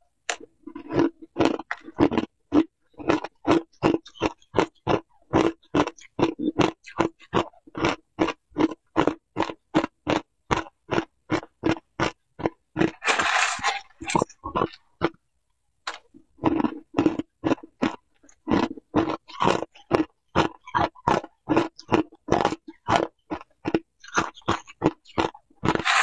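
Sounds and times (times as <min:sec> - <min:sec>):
chewing ice: 0:00.3 - 0:15.2, 0:15.9 - 0:26.0.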